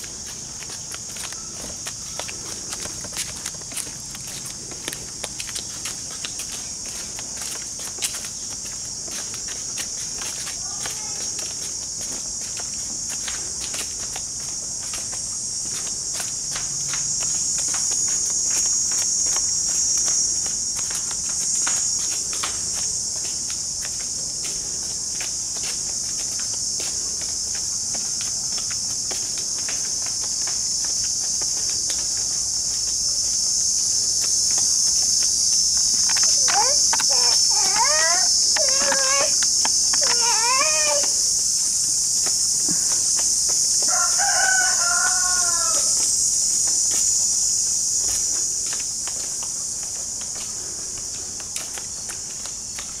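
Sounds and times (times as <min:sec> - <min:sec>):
insect chorus buzzing: 0:00.0 - 0:53.0
light footsteps: 0:00.0 - 0:53.0.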